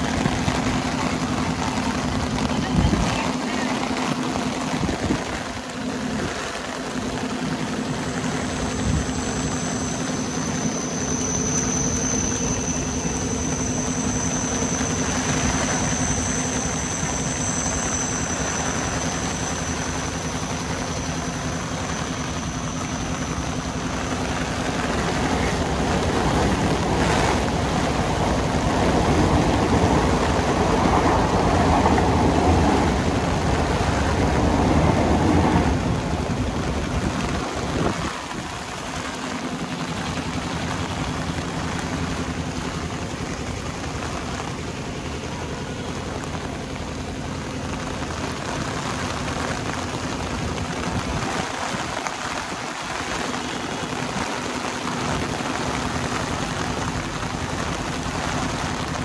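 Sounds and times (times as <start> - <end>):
electric train on tracks: 0.0 - 59.0
high whine: 0.0 - 59.0
steady rain: 0.0 - 59.0.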